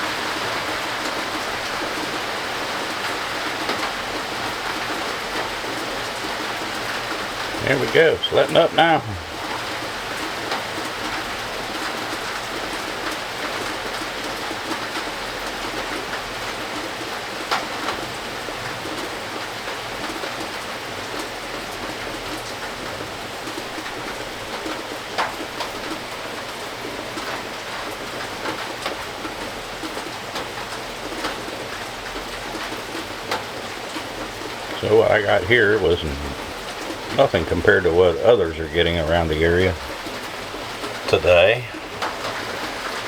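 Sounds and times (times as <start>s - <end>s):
rain drumming on a tin roof: 0.0s - 43.0s.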